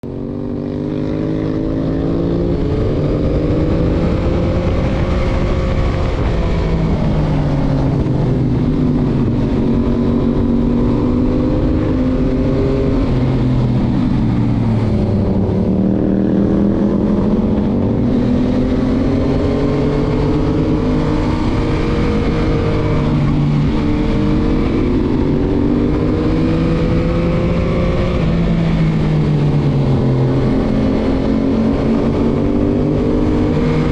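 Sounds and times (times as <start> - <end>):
motorcycle engine while riding: 0.0 - 33.9
wind rush on microphone: 0.0 - 33.9.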